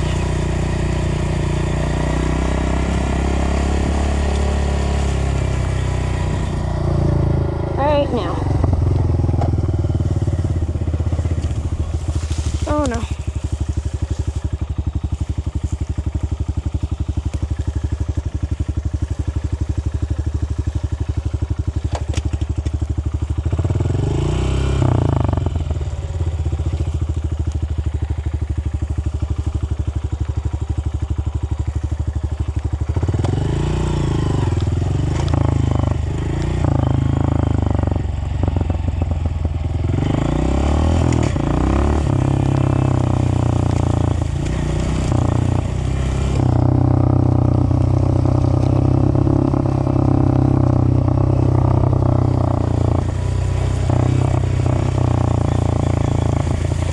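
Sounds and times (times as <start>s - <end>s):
dirt bike engine idling and revving: 0.0s - 56.9s.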